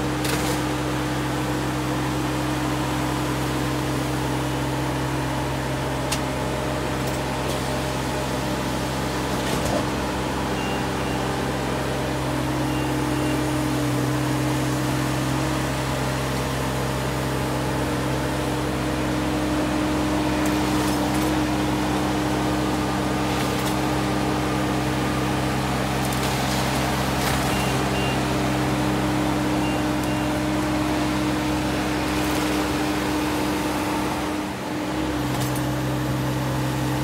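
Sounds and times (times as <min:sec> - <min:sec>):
sweeper engine and fan humming: 0:00.0 - 0:37.0.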